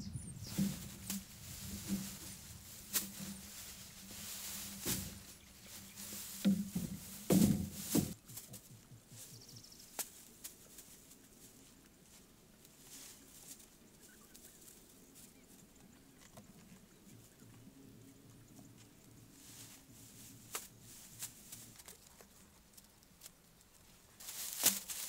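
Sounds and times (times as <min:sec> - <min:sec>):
dry grass rustling and crackling: 0:00.0 - 0:25.0.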